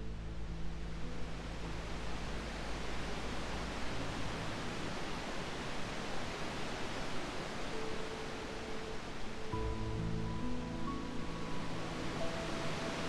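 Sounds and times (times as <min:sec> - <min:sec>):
gentle ocean surf: 0:00.2 - 0:13.0.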